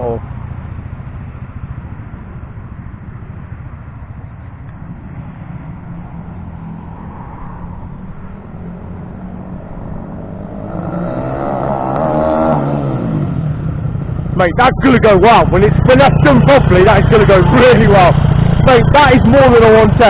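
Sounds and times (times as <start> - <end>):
minibike engine at full throttle: 0.0 - 20.0.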